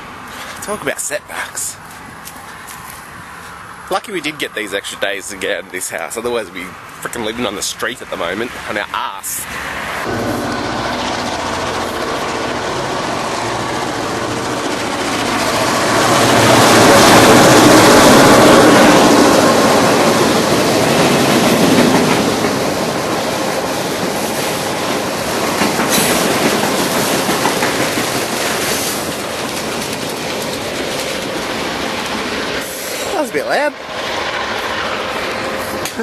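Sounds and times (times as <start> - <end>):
freight train passing: 0.0 - 36.0.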